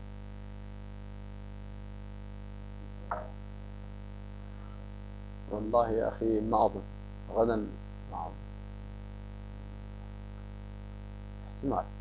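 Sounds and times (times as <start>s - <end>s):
low electrical mains hum: 0.0s - 12.0s.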